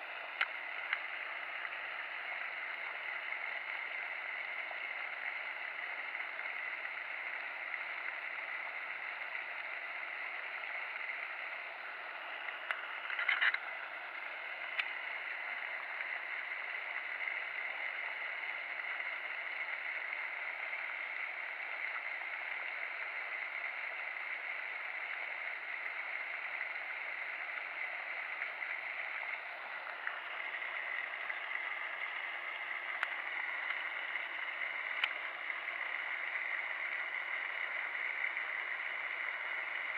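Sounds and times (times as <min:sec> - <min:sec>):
fountain spraying water: 0:00.0 - 0:39.9.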